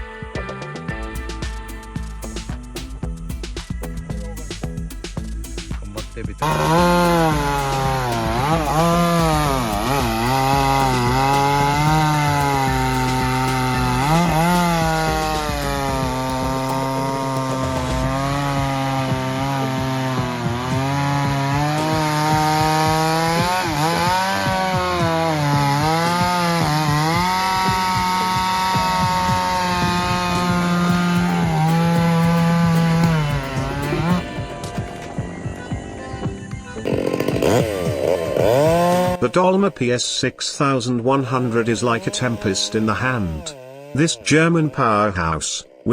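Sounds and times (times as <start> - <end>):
chainsaw cutting wood: 1.4 - 35.9, 36.8 - 39.4, 41.3 - 45.1.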